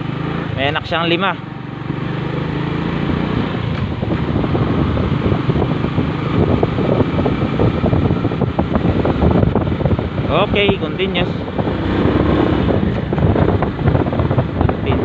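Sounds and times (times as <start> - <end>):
motorcycle engine running: 0.0 - 15.0
wind buffeting microphone: 1.8 - 15.0.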